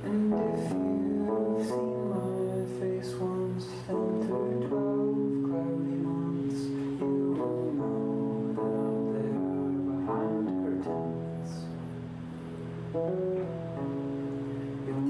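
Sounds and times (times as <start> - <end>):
electric guitar chords ringing: 0.0 - 15.0.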